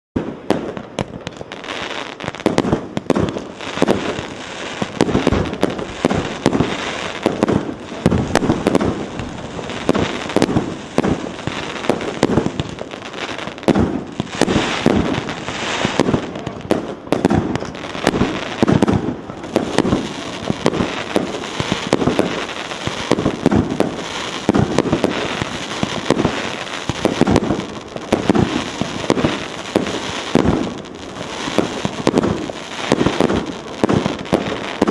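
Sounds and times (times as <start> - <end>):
fireworks launching and bursting: 0.2 - 34.9.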